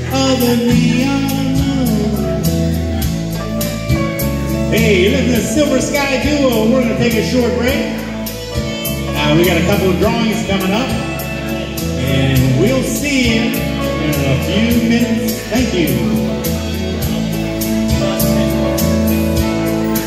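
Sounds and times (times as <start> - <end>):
electric guitar lead: 0.0 - 20.0
keyboard playing: 0.0 - 20.0
steady beat and bass line: 0.0 - 20.0.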